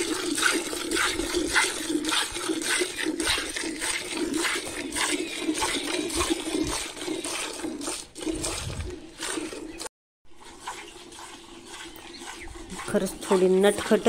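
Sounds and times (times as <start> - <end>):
milk squirting into metal pail: 0.0 - 14.0.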